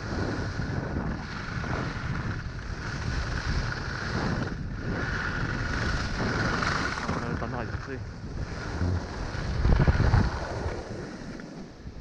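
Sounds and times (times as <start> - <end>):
skis sliding on packed snow: 0.0 - 12.0
wind buffeting microphone: 0.0 - 12.0.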